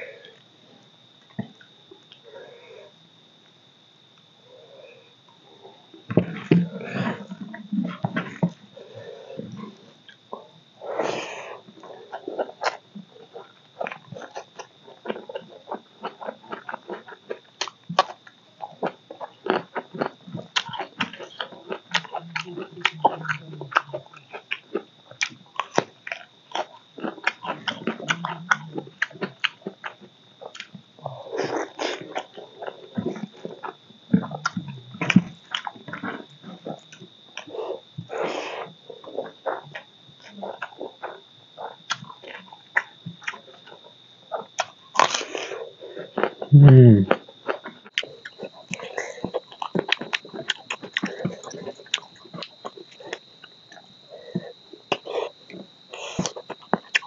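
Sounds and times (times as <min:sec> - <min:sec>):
man chewing with mouth open: 0:05.4 - 0:57.0.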